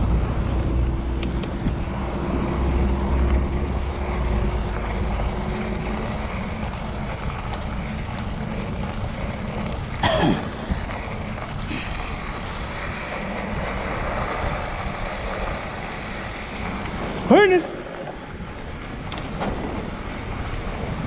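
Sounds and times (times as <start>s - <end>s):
bike tyres rumbling on dirt: 0.0s - 21.0s
wind buffeting microphone: 0.0s - 21.0s.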